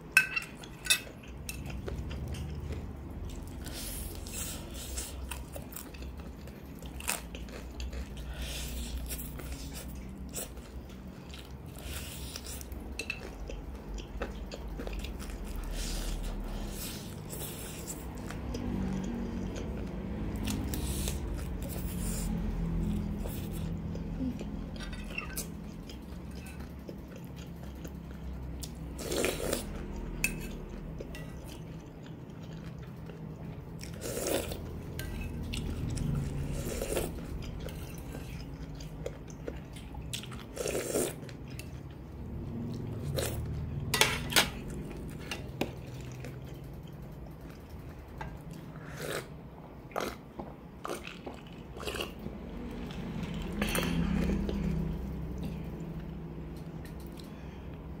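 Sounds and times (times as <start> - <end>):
chewing and eating: 0.0 - 58.0.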